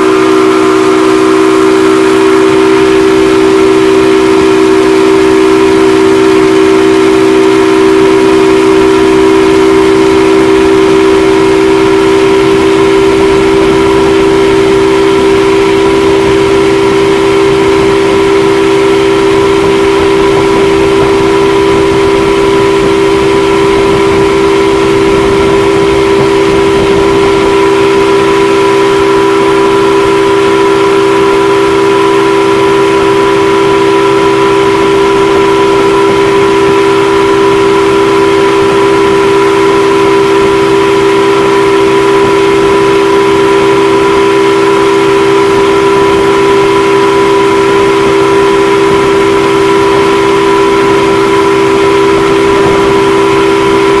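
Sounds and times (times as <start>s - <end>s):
churning wake water: 0.0s - 54.0s
motorboat engine running: 0.0s - 54.0s.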